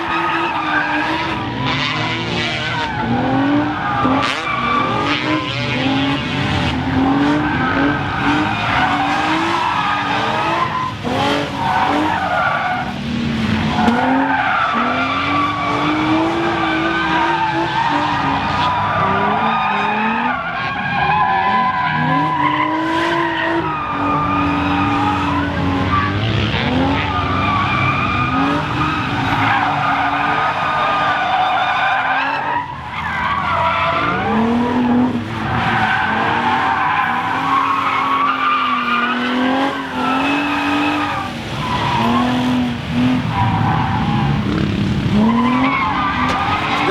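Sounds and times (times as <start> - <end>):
car engine revving: 0.0 - 46.9
tires squealing: 0.0 - 46.9.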